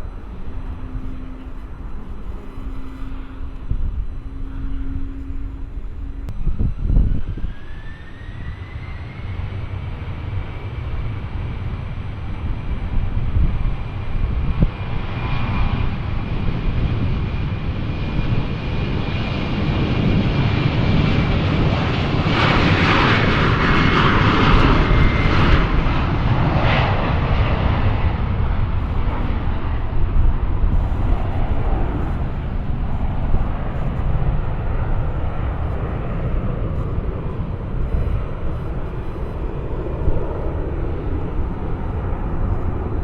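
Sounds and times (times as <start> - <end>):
airliner engine whine: 0.0 - 43.0
low rumbling roar: 0.0 - 43.0.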